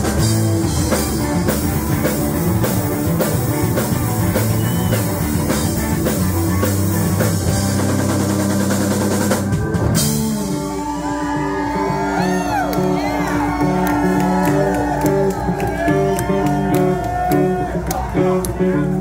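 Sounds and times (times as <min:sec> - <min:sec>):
drum kit beat: 0:00.0 - 0:17.6
electric guitars: 0:00.0 - 0:19.0.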